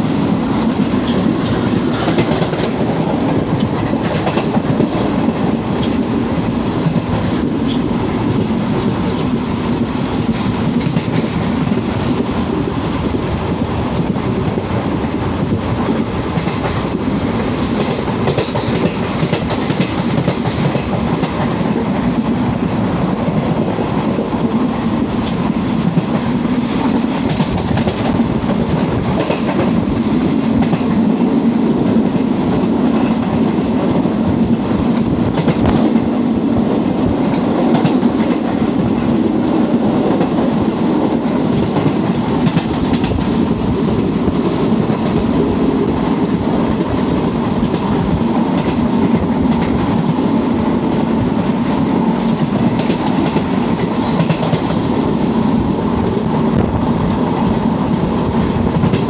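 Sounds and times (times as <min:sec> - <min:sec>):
train coach rumbling on track: 0:00.0 - 0:59.0.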